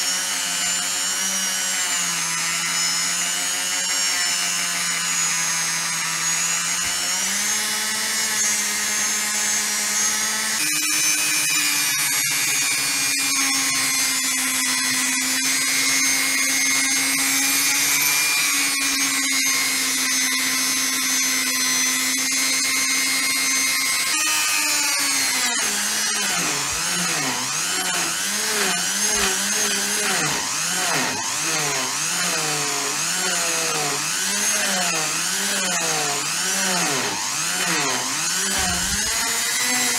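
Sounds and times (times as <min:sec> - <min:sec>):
electric power tool running: 0:00.0 - 0:39.9.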